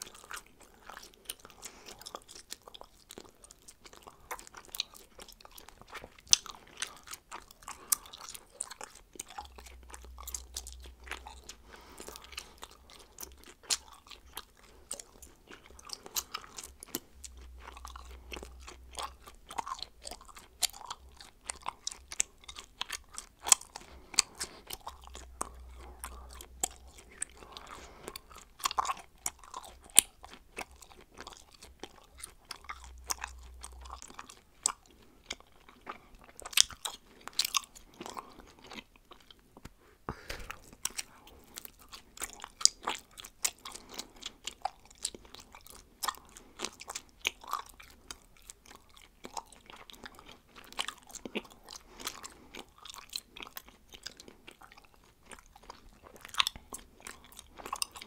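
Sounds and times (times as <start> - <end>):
gum chewing smacks: 0.0 - 58.0.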